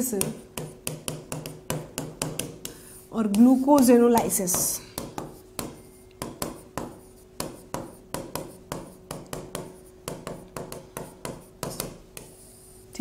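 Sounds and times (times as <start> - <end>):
pen tapping on a whiteboard screen: 0.2 - 12.4.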